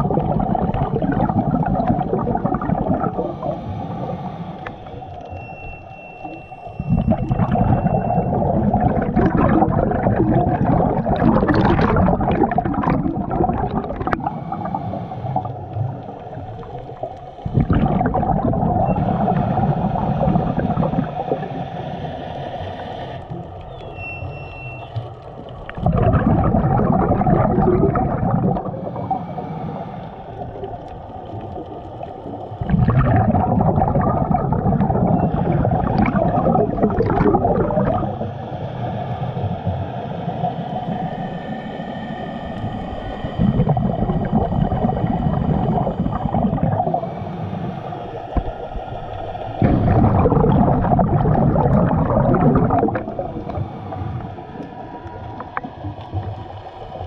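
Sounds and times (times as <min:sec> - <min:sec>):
underwater exhaust bubbles: 0:00.0 - 0:57.0.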